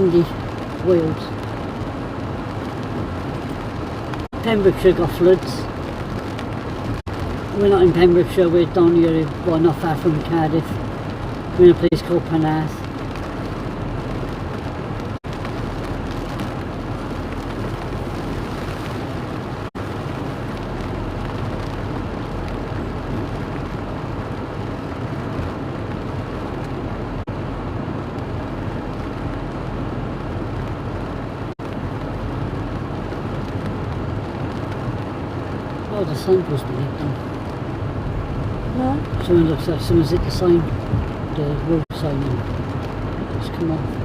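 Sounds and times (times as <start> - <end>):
strong wind: 0.0 - 9.5, 10.1 - 36.0, 36.7 - 44.0
vehicle travelling through rain: 0.0 - 44.0.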